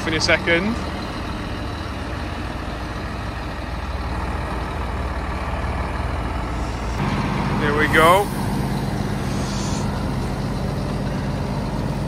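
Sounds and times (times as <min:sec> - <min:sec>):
diesel lorry engine rumbling: 0:00.0 - 0:12.0.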